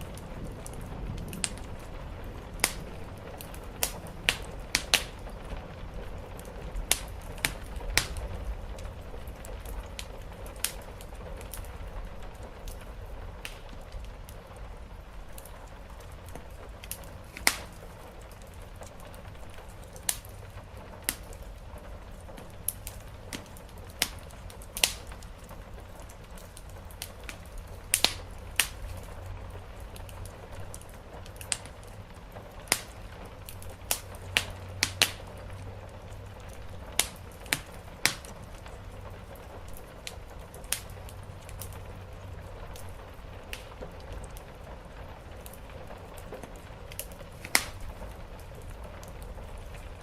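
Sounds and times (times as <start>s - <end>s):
rain on roof: 0.0s - 50.0s
wood fire crackling: 0.0s - 50.0s.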